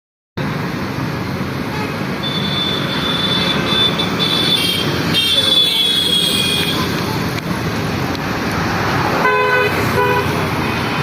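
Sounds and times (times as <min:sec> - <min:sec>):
road traffic engines: 0:00.4 - 0:11.0.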